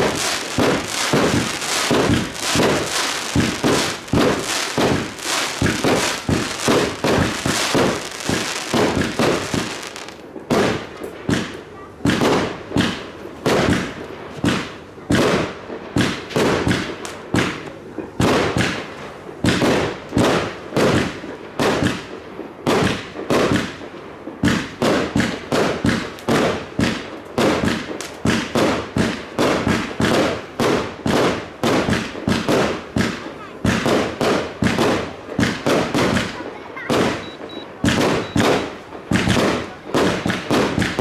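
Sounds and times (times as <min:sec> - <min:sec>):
fireworks bangs echoing: 0:00.0 - 0:41.0.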